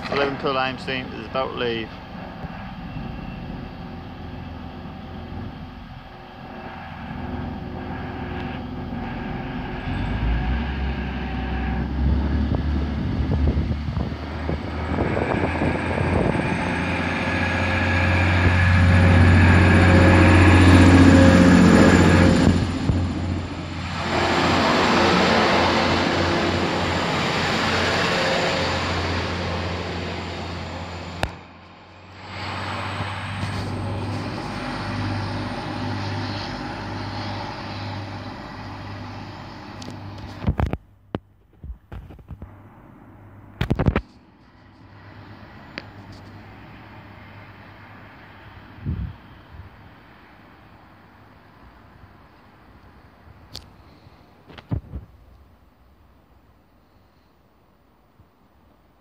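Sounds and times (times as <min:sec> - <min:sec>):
diesel train engines droning: 0:00.0 - 0:41.1, 0:41.8 - 0:54.6.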